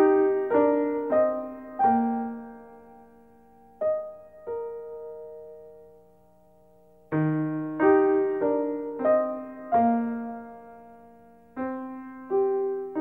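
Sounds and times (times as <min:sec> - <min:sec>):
slow gentle piano melody: 0:00.0 - 0:13.0.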